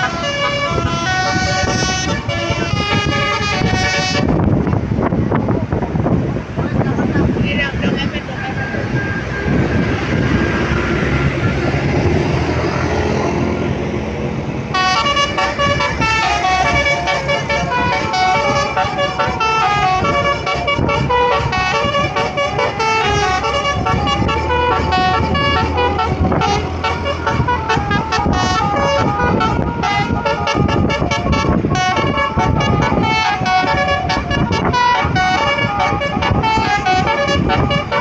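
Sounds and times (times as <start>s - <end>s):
bus horn playing a tune: 0.0s - 4.8s, 8.7s - 38.0s
rushing road noise: 0.0s - 38.0s.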